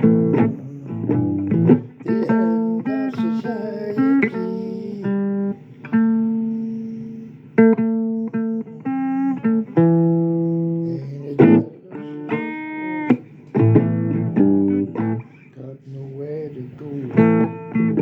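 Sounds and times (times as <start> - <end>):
blues guitar playing: 0.0 - 18.0.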